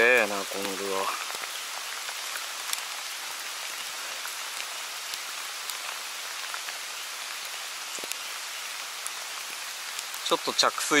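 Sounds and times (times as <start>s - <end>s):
raindrop ticks: 0.0s - 11.0s
steady rain hiss: 0.0s - 11.0s.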